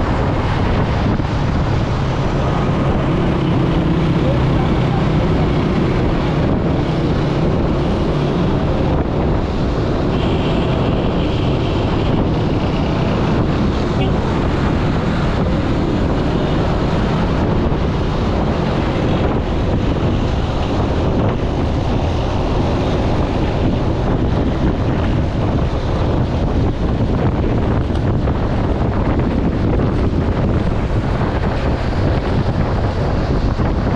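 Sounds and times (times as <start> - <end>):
vehicle noise: 0.0 - 33.9
wind buffeting microphone: 0.0 - 33.9.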